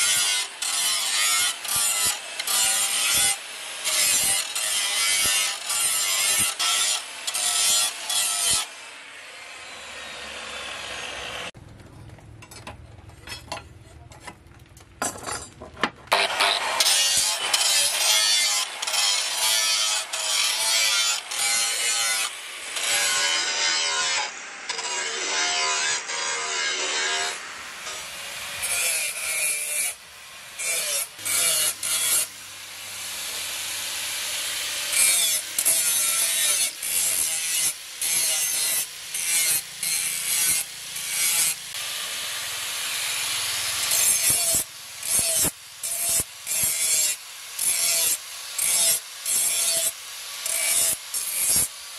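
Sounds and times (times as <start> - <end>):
angle grinder grinding steel: 0.0 - 11.6, 16.1 - 51.9.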